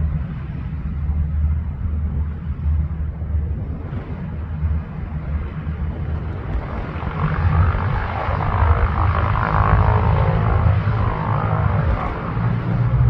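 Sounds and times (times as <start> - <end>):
propeller plane engine: 0.0 - 13.0
steady low rumble: 0.0 - 13.0.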